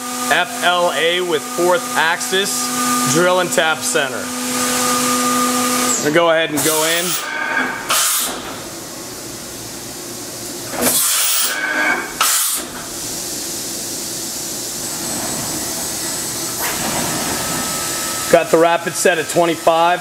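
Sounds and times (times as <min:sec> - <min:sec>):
shop machinery hissing and humming: 0:00.0 - 0:20.0.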